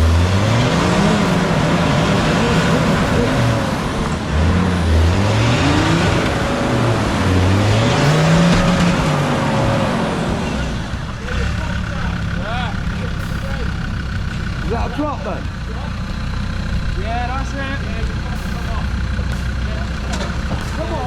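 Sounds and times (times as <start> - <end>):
steady high whine: 0.0 - 21.0
truck engine revving: 0.0 - 21.0.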